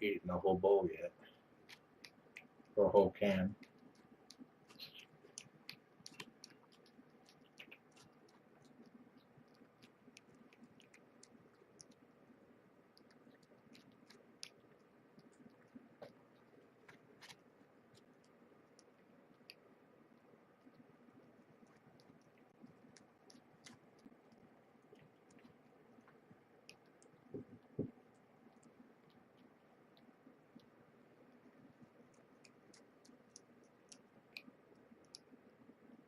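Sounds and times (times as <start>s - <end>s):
cats eating wet food: 1.2s - 36.0s.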